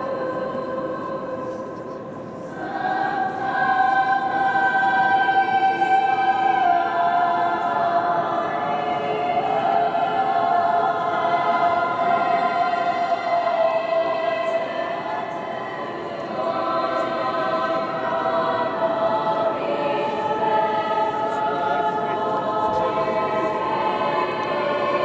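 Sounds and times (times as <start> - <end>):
girls' choir singing: 0.0 - 25.0.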